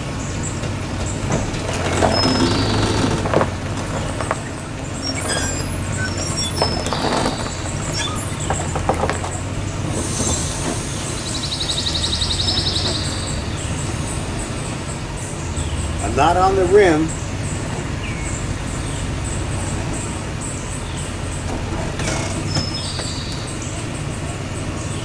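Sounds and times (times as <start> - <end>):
tire knocks and squeaks: 0.0 - 25.0
truck engine running slowly: 0.0 - 25.0.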